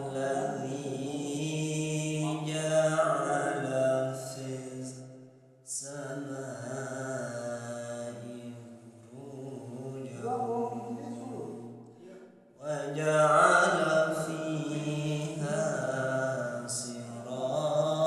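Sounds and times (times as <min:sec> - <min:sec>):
man chanting a recitation: 0:00.0 - 0:05.0, 0:05.7 - 0:18.0.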